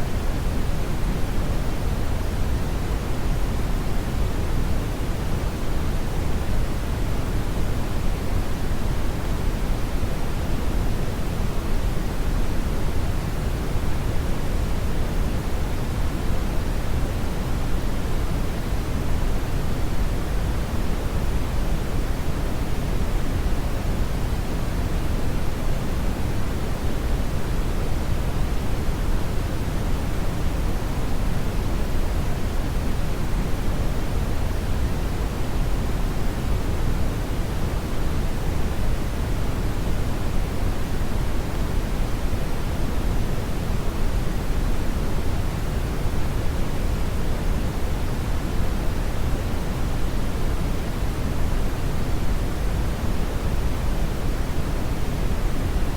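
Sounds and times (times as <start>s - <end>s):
brown noise hiss: 0.0s - 55.9s.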